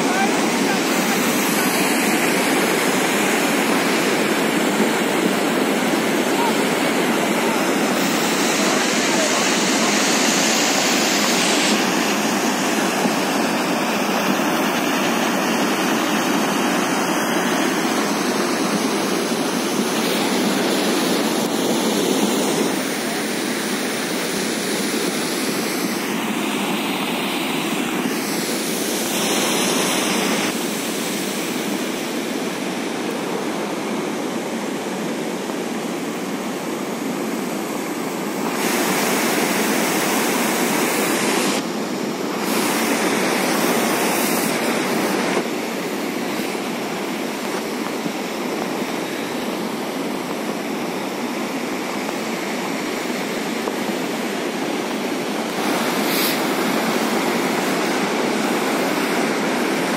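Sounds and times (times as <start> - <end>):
floodwater rushing over rocks: 0.0 - 59.9.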